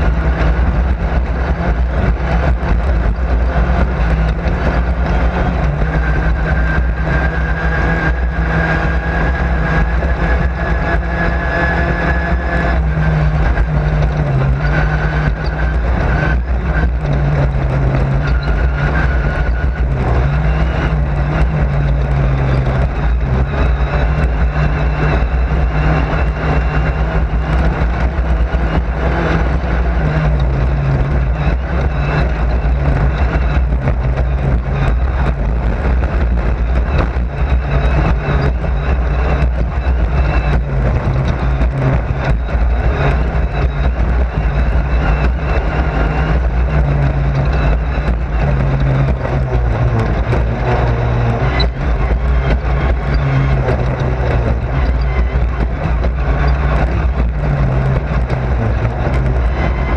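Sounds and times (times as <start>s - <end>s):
race car engine under load: 0.0s - 59.9s.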